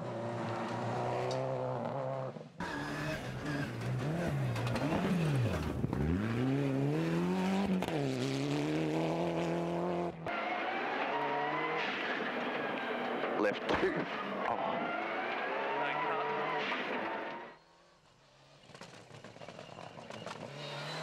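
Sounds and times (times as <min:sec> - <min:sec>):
rally car engine revving: 0:00.0 - 0:17.5, 0:19.4 - 0:21.0.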